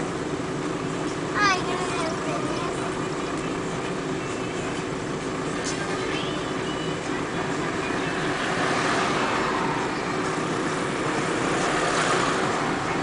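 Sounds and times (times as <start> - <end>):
vehicle cabin rumble and hiss: 0.0 - 13.0.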